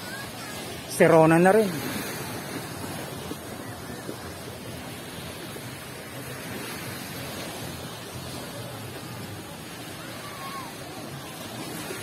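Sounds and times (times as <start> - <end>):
gentle surf on shore: 0.0 - 12.0.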